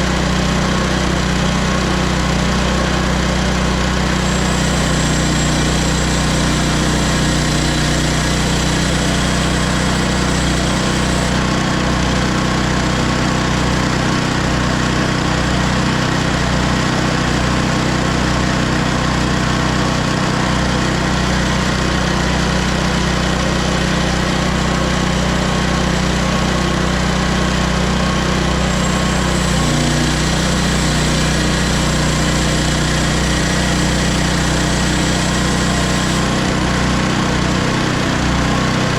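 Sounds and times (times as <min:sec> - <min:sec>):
sawmill gas engine running: 0:00.0 - 0:38.9.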